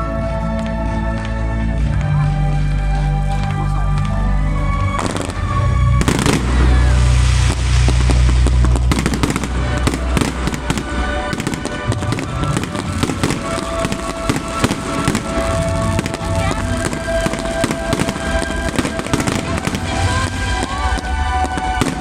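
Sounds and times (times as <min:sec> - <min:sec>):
music playing: 0:00.0 - 0:22.0
deep rumble: 0:01.8 - 0:22.0
fireworks crackling: 0:02.5 - 0:22.0.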